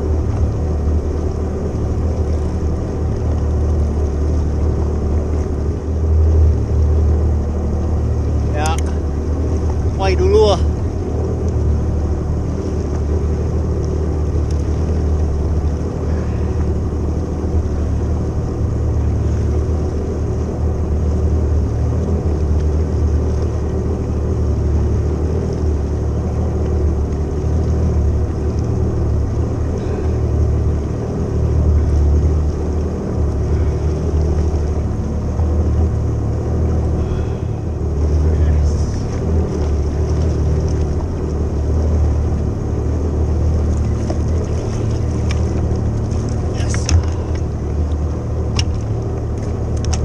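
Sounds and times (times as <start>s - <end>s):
jet ski engine idling: 0.0s - 50.0s
water noise: 0.0s - 50.0s.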